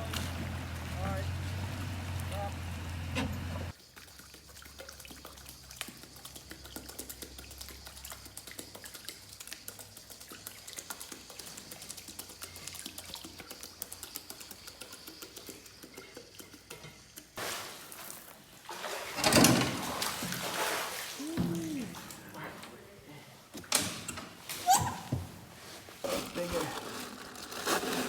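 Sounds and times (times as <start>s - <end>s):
water lapping and dripping: 0.0s - 23.7s.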